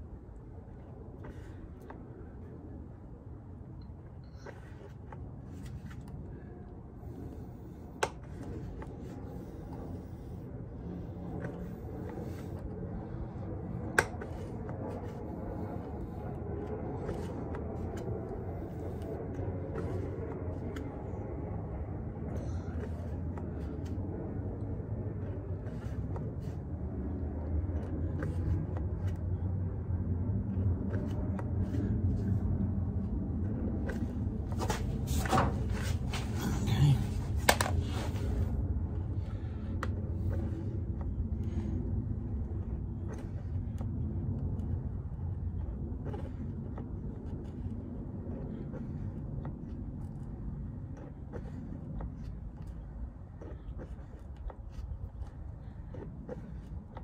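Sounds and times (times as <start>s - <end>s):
low rumble: 0.0s - 57.0s
steady low hum: 0.0s - 57.0s.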